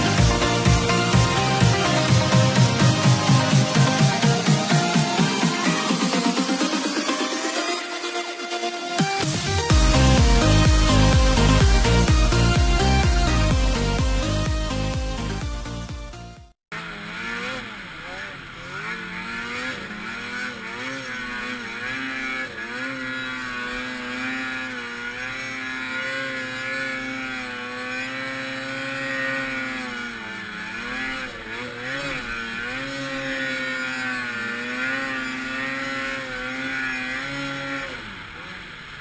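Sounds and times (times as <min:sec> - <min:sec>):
snowmobile engine at high revs: 0:00.0 - 0:39.0.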